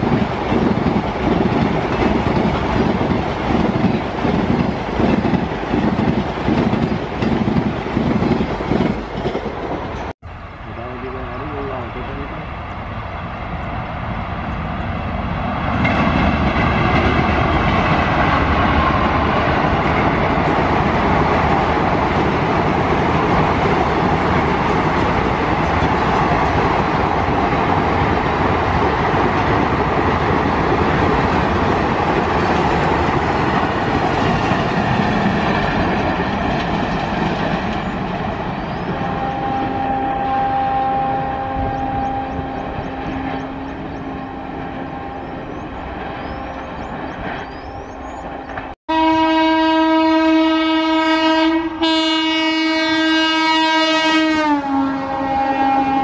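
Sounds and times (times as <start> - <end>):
train passing on track: 0.0 - 56.0.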